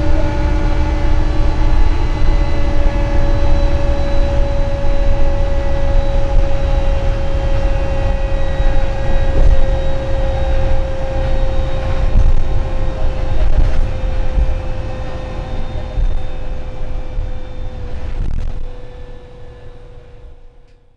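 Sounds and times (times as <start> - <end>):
road noise: 0.0 - 20.6
bus engine rumble: 0.0 - 20.8
steady high whine: 0.0 - 20.9.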